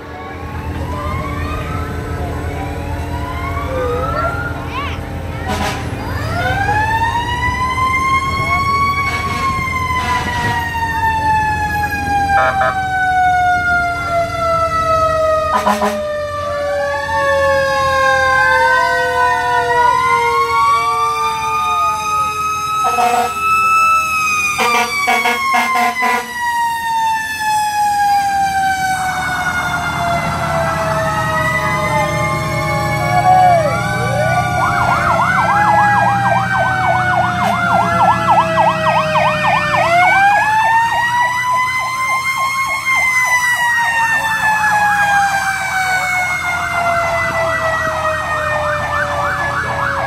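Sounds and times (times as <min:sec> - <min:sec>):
fire truck siren wail: 0:00.0 - 0:50.0
truck engines rumbling: 0:00.0 - 0:50.0
fast warbling siren yelp: 0:00.2 - 0:50.0.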